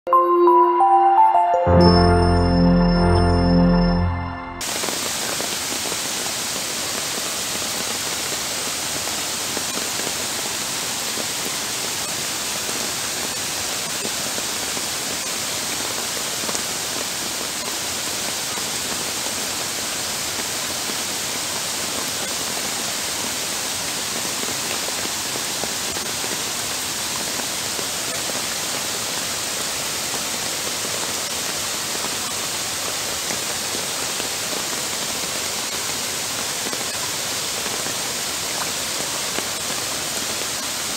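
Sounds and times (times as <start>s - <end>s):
heavy rain downpour: 4.6s - 40.9s.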